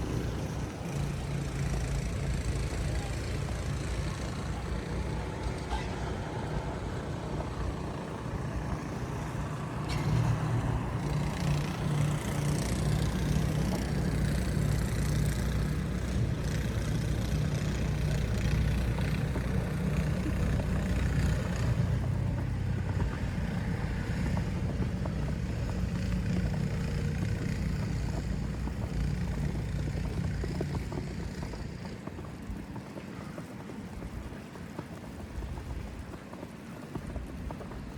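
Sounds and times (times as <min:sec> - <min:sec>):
heavy vehicle engine drone: 0:00.0 - 0:32.6
city traffic hiss: 0:00.0 - 0:37.9.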